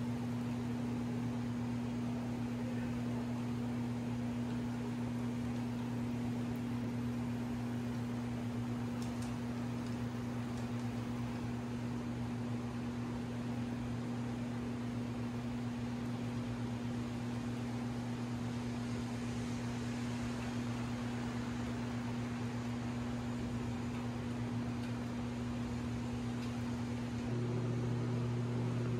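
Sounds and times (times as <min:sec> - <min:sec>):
electrical hum: 0:00.0 - 0:28.9
fan-like hiss: 0:00.0 - 0:28.9.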